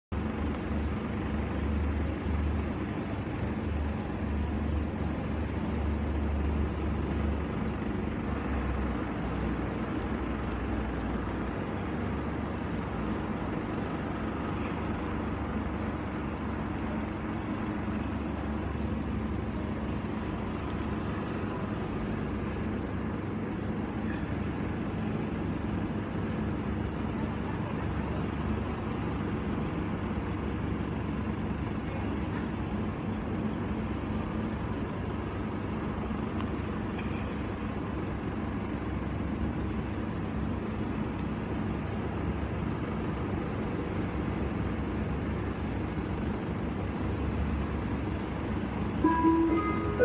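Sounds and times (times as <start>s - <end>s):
airport terminal hum: 0.2s - 50.0s.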